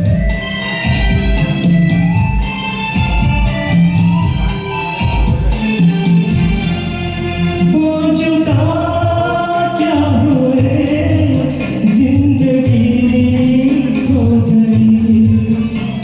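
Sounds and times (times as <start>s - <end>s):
karaoke backing music: 0.0s - 16.0s.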